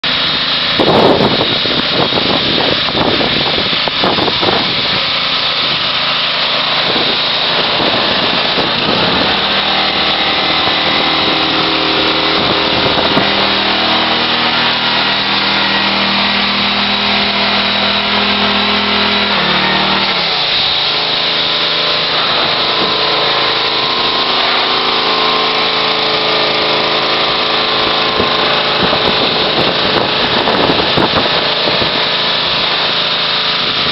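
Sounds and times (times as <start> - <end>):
pressure washer engine: 0.0 - 33.9
water spray hissing: 0.1 - 33.9.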